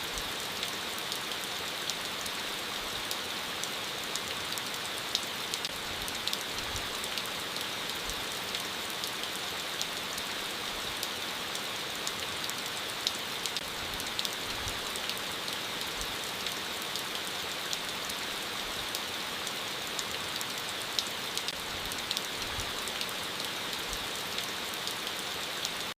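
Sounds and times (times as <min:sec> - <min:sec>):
steady rainfall: 0:00.0 - 0:26.0
raindrops ticking on a surface: 0:00.1 - 0:26.0.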